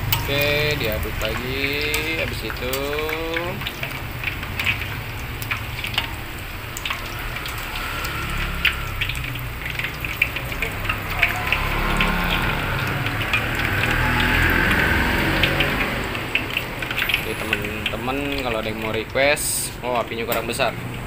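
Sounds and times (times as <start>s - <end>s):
food deep-frying in hot oil: 0.0s - 21.0s.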